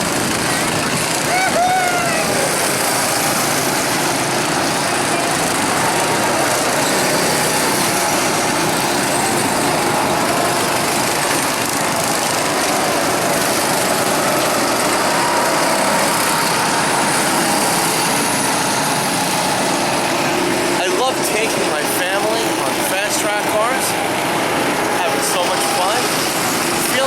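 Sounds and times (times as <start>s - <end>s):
small gasoline engines droning: 0.0s - 27.0s.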